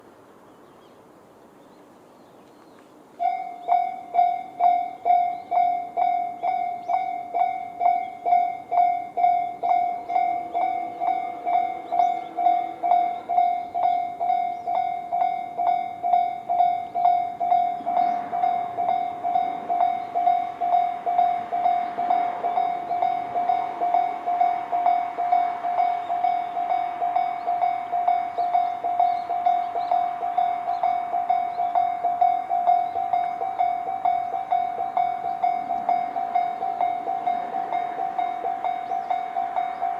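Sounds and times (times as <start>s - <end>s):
rush of train noise: 0.0s - 39.9s
level-crossing electronic warning bell: 3.2s - 39.9s.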